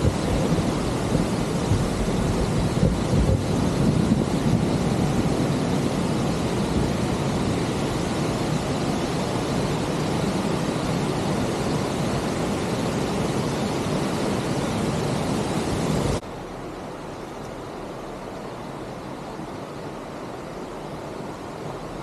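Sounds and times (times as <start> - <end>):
river water rushing over rocks: 0.0 - 22.0
steady hiss: 0.0 - 22.0.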